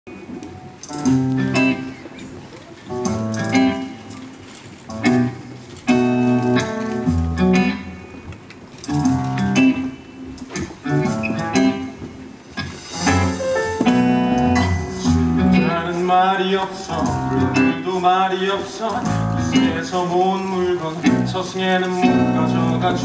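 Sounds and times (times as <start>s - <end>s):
guitar-led instrumental music: 0.1s - 23.0s.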